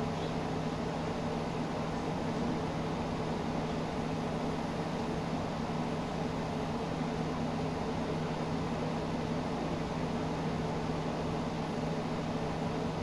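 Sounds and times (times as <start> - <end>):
room ventilation hum and hiss: 0.0 - 13.0.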